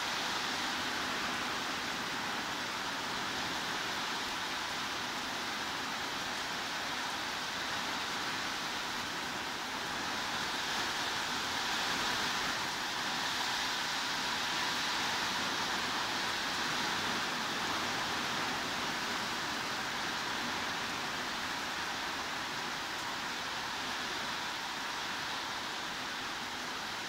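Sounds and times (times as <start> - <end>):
heavy rain hiss: 0.0 - 27.0.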